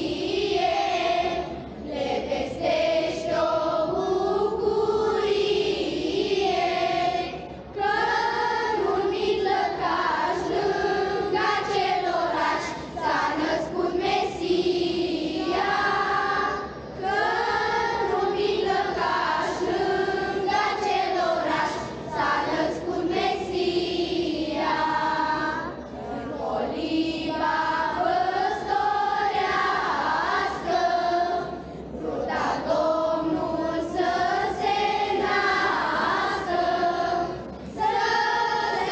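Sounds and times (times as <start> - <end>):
children's choir singing carol: 0.0 - 38.9.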